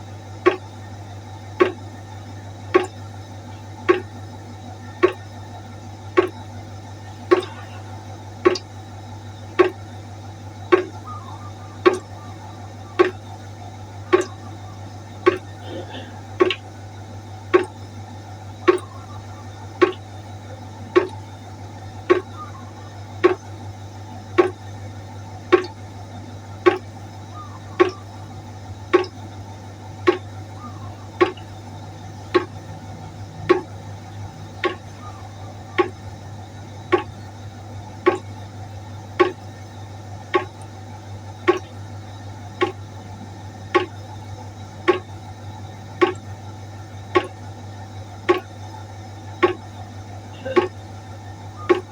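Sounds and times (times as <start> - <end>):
constant low hum: 0.0 - 51.9
water drips plinking into pot: 0.2 - 51.9.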